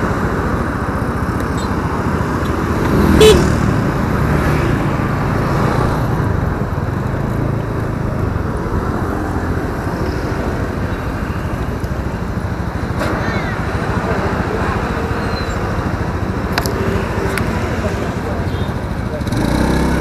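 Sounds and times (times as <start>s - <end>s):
road traffic: 0.0s - 20.0s
scooter engine running: 0.0s - 20.0s.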